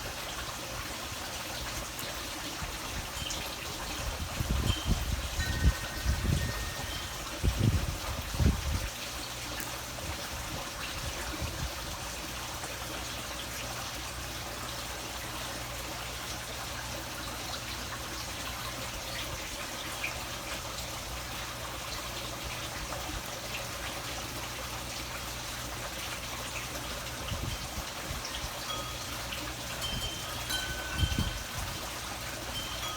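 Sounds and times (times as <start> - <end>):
running water trickling: 0.0 - 32.9.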